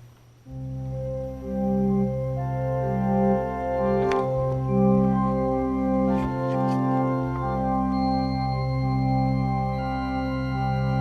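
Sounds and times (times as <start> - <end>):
organ playing chords: 0.4 - 11.0.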